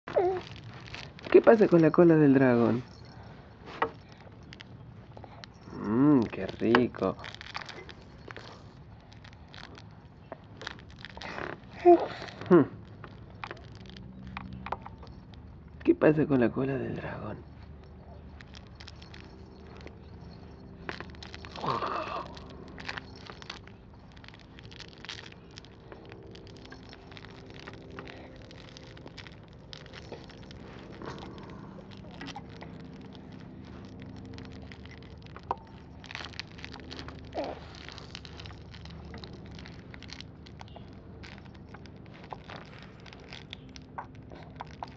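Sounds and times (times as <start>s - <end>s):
crackling and rustling handling: 0.0s - 44.9s
steady low hum: 0.0s - 44.9s.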